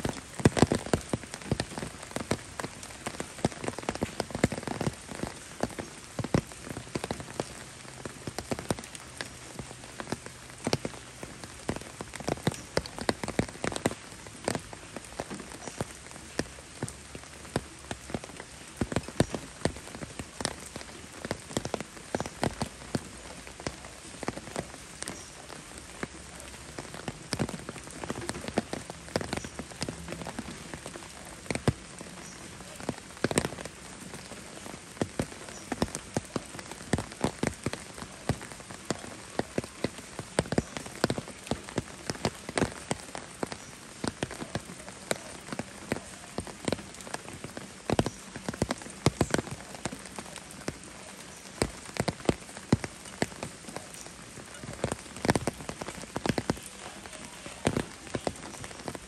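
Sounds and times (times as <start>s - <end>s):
rain falling: 0.0s - 59.0s
raindrop taps: 0.0s - 59.0s.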